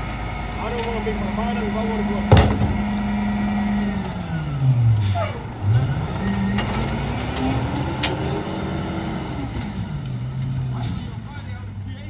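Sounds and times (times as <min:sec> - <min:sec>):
garbage truck diesel engine revving: 0:00.0 - 0:11.2.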